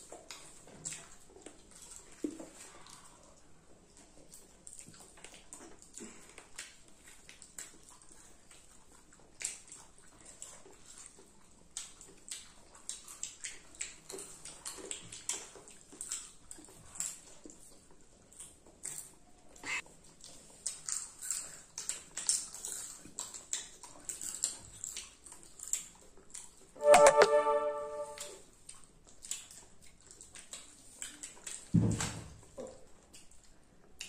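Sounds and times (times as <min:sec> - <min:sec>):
people chewing popcorn: 0:00.0 - 0:26.8, 0:28.4 - 0:34.0.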